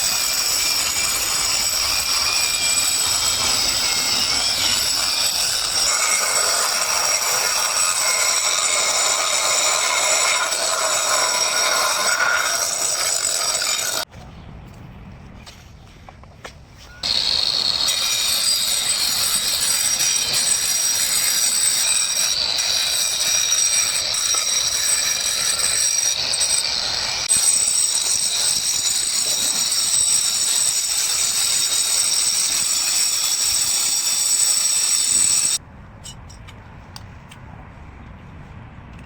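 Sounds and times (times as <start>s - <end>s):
angle grinder whine: 0.0s - 14.0s, 17.0s - 35.6s.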